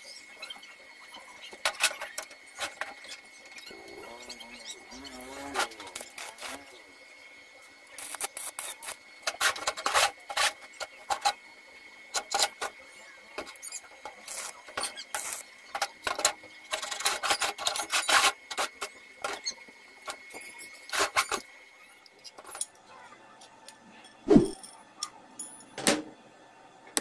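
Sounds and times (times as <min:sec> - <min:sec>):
welding arc crackling and sizzling: 0:00.0 - 0:22.4.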